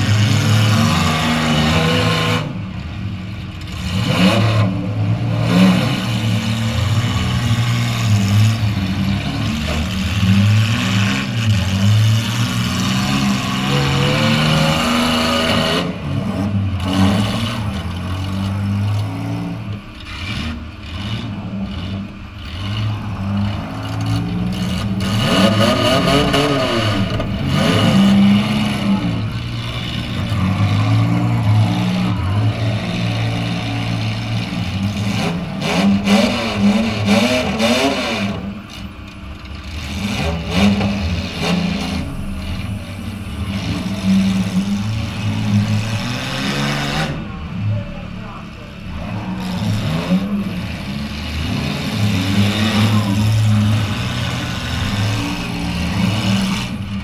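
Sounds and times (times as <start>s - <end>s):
car engines idling and revving: 0.0s - 57.0s.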